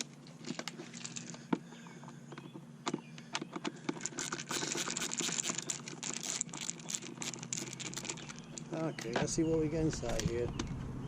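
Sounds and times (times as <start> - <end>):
scratching and clicking plastic: 0.0 - 10.8.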